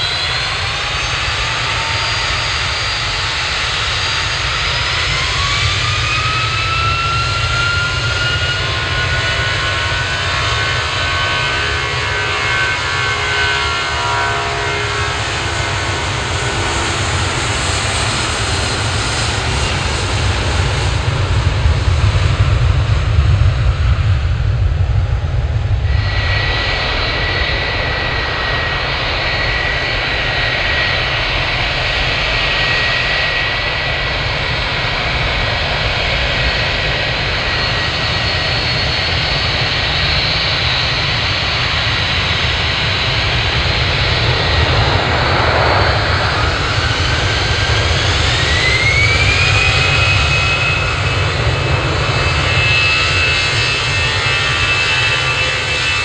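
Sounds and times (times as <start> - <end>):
jet engines roaring and whining: 0.0 - 56.0.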